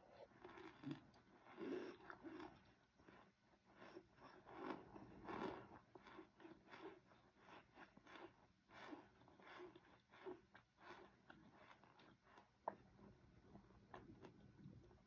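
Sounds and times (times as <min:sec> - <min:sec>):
person chewing crunchy powder: 0:00.0 - 0:15.0.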